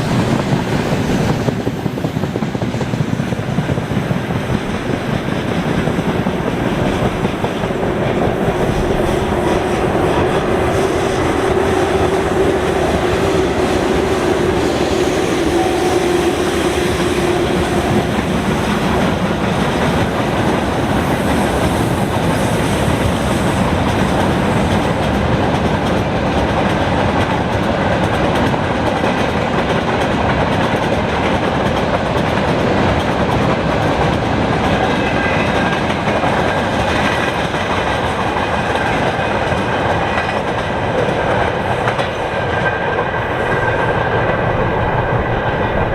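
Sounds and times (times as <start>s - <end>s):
train wheels on rails: 0.0s - 45.9s.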